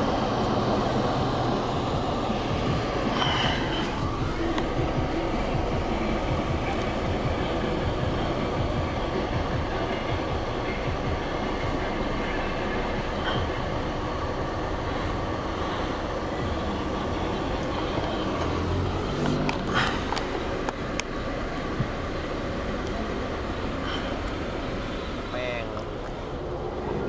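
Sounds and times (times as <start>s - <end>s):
road noise: 0.0s - 27.0s
vehicle engine rumble: 0.0s - 27.0s.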